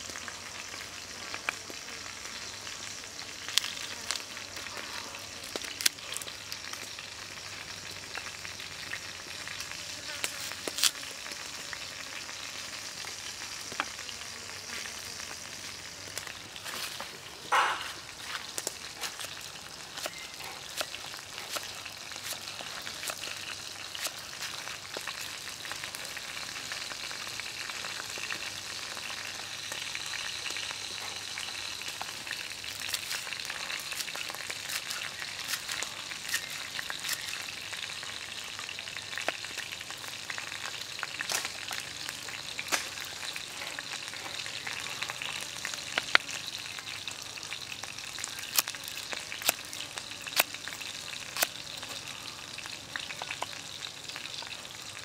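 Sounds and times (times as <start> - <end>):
food frying in oil: 0.0 - 55.0.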